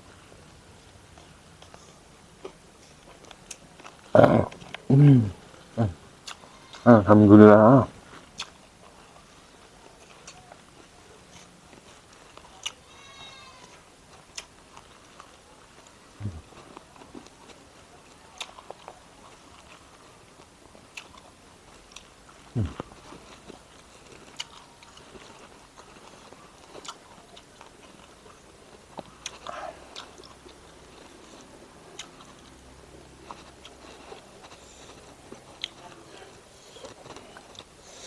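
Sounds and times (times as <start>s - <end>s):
chewing and mouth sounds: 0.8s - 6.9s, 7.6s - 12.8s, 13.6s - 38.0s.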